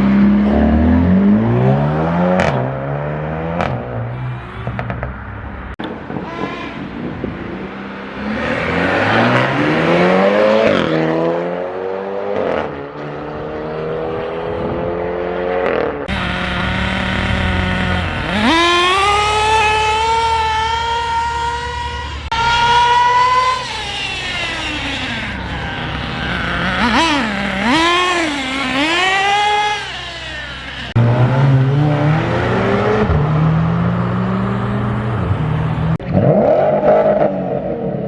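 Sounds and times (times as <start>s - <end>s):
engines revving: 0.0s - 38.0s.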